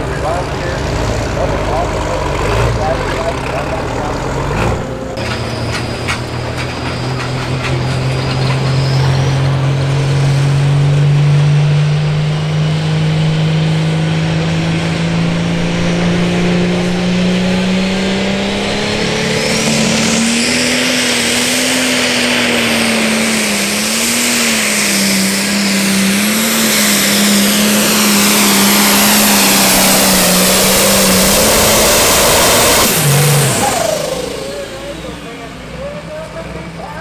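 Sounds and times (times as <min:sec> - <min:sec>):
diesel engine revving: 0:00.0 - 0:37.0
exhaust rushing: 0:00.0 - 0:37.0.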